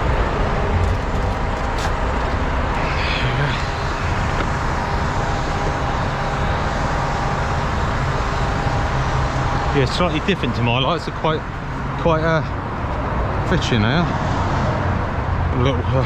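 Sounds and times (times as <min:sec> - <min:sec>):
motorway traffic rumble: 0:00.0 - 0:16.0.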